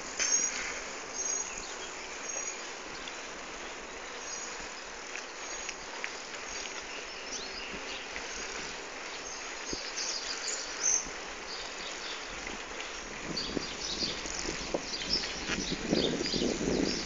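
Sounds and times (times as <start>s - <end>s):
bicycle riding on pavement: 0.0s - 17.0s.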